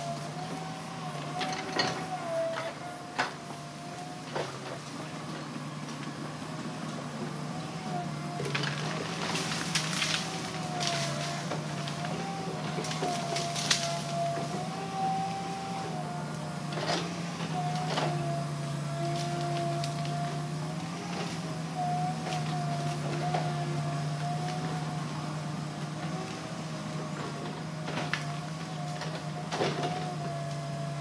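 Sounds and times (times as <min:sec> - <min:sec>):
diesel engine running: 0:00.0 - 0:31.0
wavering machine whine: 0:00.0 - 0:31.0.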